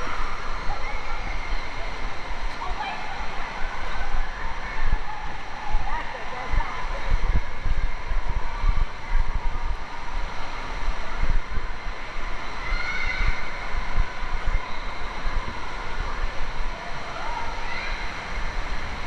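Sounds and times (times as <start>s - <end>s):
echoing indoor crowd din: 0.0s - 19.0s
low rumbling on microphone: 0.0s - 19.0s.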